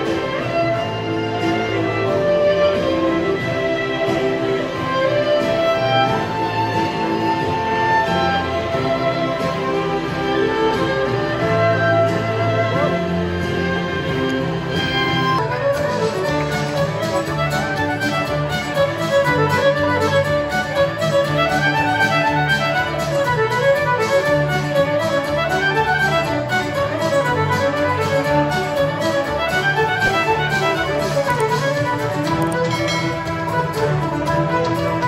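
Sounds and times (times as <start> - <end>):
string trio playing: 0.0 - 35.0.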